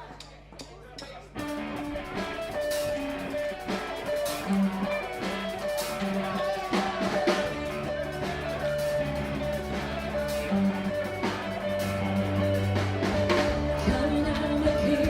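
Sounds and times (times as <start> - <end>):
drum kit playing steady beat: 0.0 - 15.0
guitar: 0.0 - 15.0.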